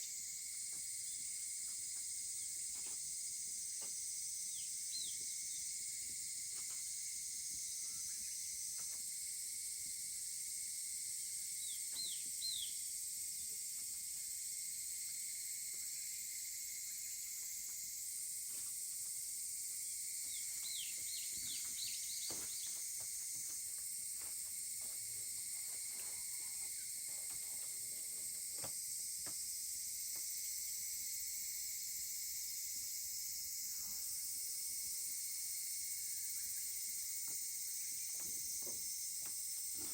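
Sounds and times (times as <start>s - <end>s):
insect chorus hiss: 0.0s - 39.9s.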